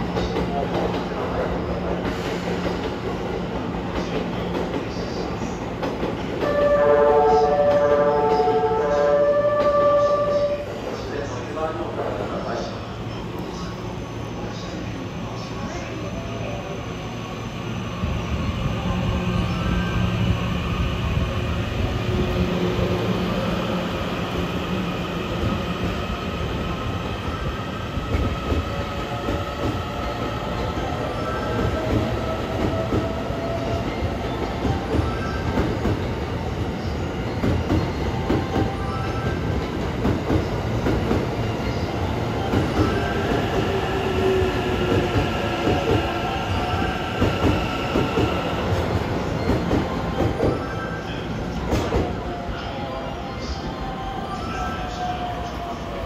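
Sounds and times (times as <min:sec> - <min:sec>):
train wheels rumbling on rail: 0:00.0 - 0:50.7, 0:51.4 - 0:52.7.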